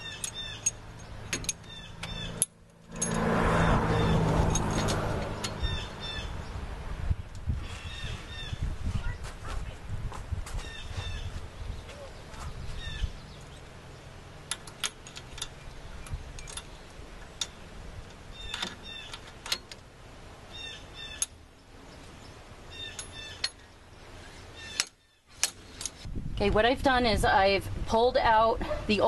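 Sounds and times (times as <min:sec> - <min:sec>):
birds chirping: 0:00.0 - 0:09.8, 0:10.6 - 0:26.1.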